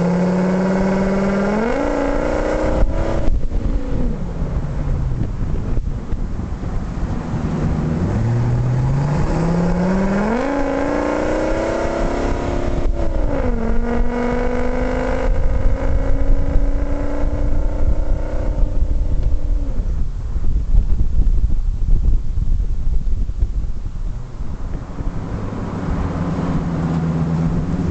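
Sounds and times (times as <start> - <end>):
truck engine accelerating: 0.0 - 21.3, 23.8 - 27.9
low wind rumble on microphone: 0.0 - 27.9.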